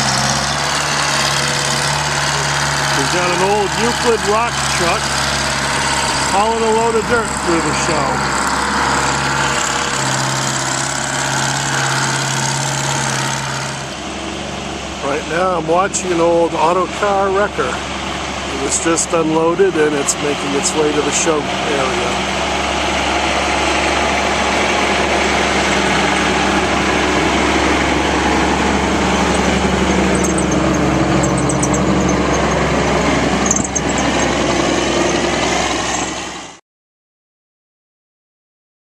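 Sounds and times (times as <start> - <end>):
truck engine running: 0.0 - 36.6.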